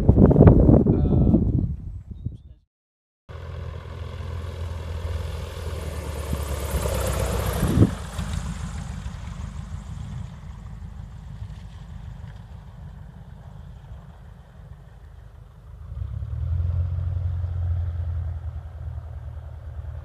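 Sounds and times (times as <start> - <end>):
light aircraft engine and propeller: 3.3 - 20.0.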